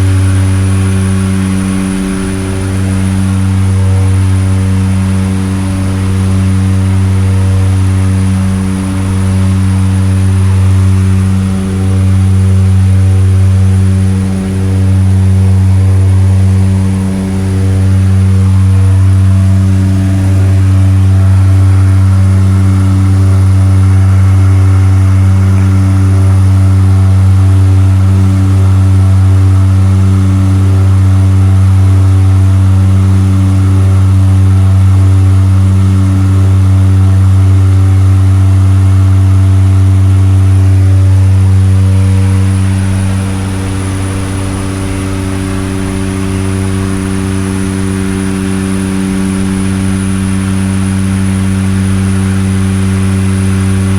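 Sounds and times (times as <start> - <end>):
propeller engines droning: 0.0 - 53.9.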